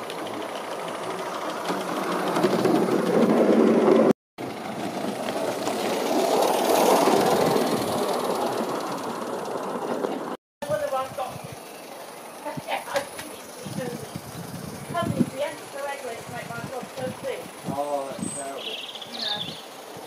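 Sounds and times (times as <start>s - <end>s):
model steam railcar hissing and rattling: 0.0s - 20.0s.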